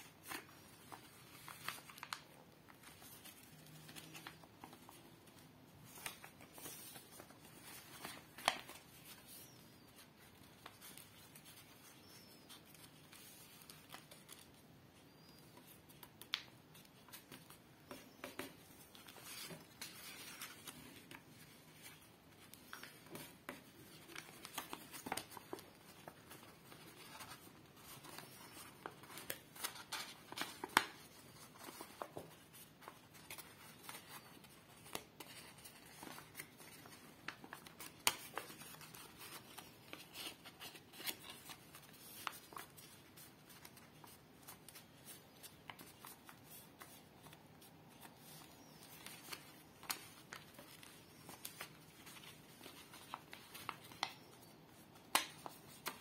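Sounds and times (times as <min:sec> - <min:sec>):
paper rustling and crackling: 0:00.0 - 0:56.0.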